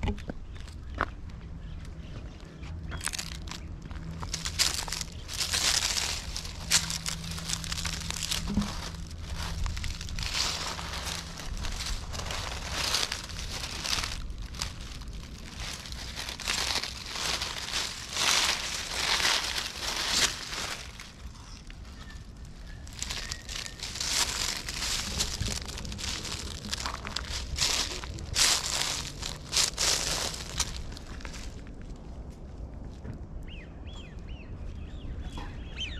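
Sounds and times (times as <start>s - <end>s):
footsteps crunching dry leaves: 1.6s - 32.2s.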